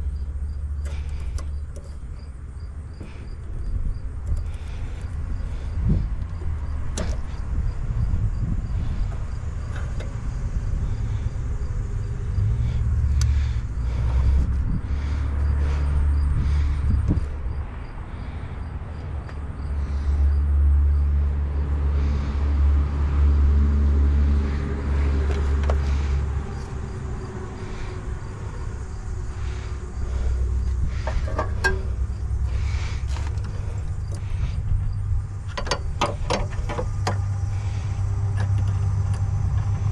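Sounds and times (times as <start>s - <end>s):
motor vehicle low rumble: 0.0s - 39.9s.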